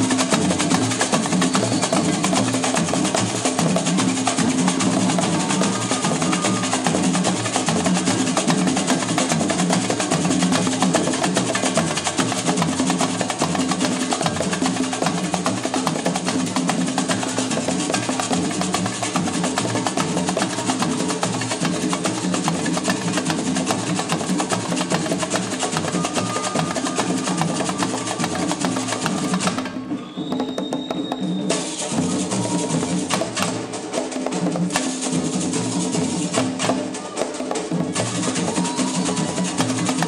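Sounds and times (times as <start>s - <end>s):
high clacking percussion: 0.0s - 40.0s
samba hand drums: 0.0s - 40.0s.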